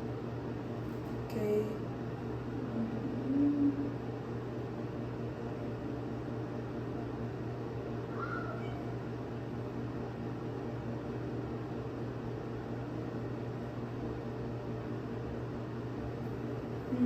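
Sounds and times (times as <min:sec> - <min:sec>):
appliance low hum with hiss: 0:00.0 - 0:17.0.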